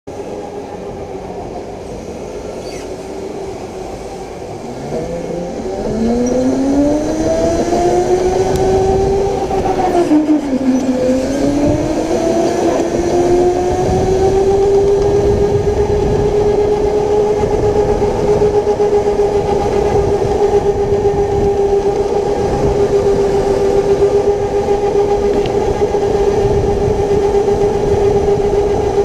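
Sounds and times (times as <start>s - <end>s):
electric go-kart motor whining: 0.2s - 29.0s.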